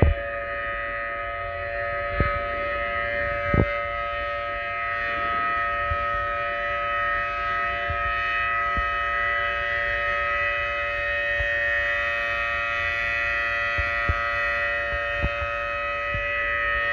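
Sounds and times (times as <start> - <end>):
warning siren steady tone: 0.0 - 16.9.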